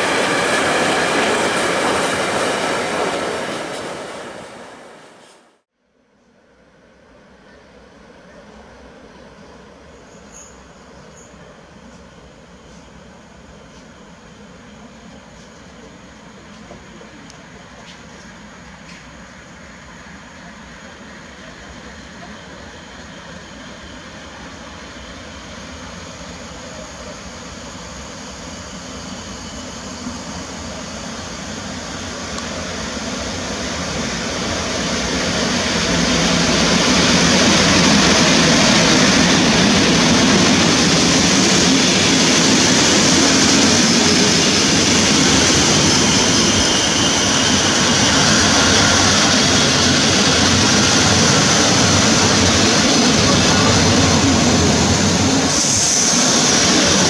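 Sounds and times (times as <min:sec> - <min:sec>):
train rumble: 0:00.0 - 0:05.5, 0:07.1 - 0:57.0.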